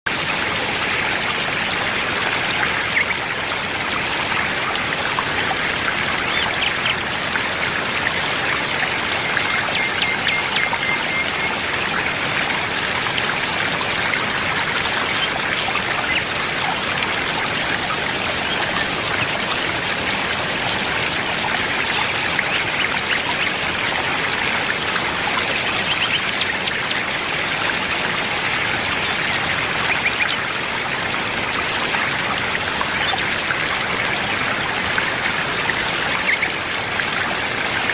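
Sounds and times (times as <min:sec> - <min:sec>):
stream flowing over stones: 0:00.1 - 0:37.9.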